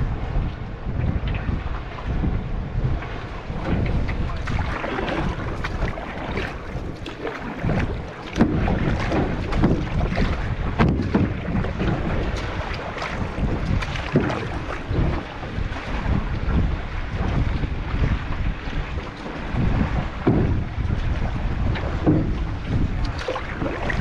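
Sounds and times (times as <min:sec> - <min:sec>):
paddle splashing water: 0:00.0 - 0:24.0
wind rumble on microphone: 0:00.0 - 0:24.0
paddle knocks: 0:02.9 - 0:24.0.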